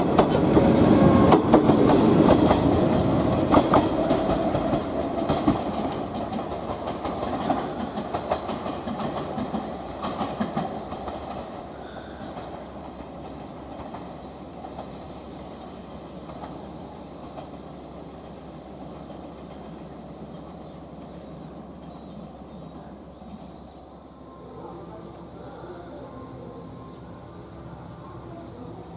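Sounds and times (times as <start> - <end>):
train wheels clicking: 0.0 - 23.4
train low rumble: 0.0 - 28.9.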